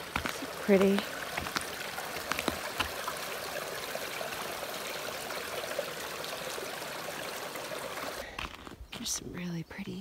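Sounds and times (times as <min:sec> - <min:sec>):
stream babbling: 0:00.0 - 0:08.2.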